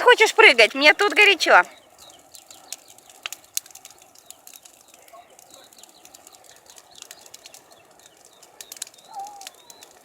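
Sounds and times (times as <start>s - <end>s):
bonfire crackling and popping: 0.0s - 10.0s.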